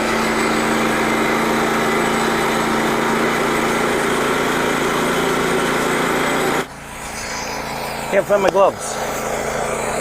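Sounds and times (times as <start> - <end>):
small gasoline engine running: 0.0 - 10.0.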